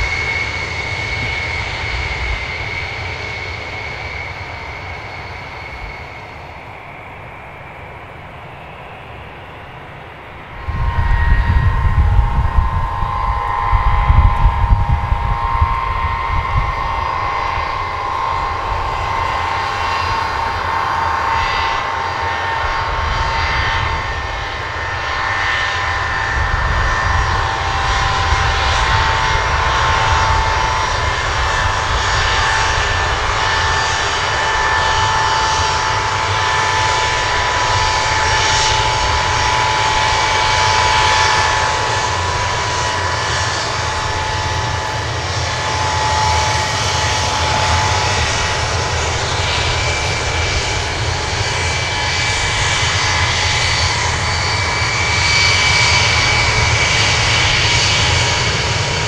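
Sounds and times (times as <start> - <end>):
jet engines whining and rumbling: 0.0 - 59.0.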